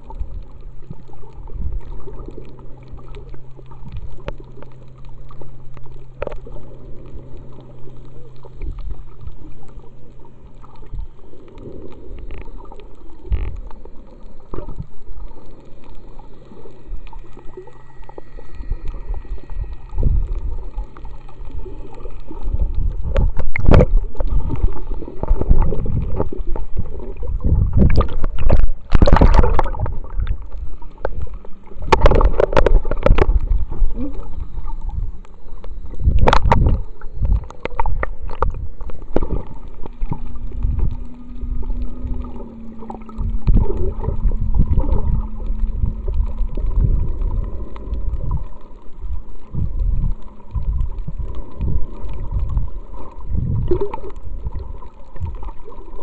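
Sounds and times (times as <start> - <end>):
muffled underwater hum: 0.0 - 56.0
water splashing and bubbling: 0.0 - 56.0.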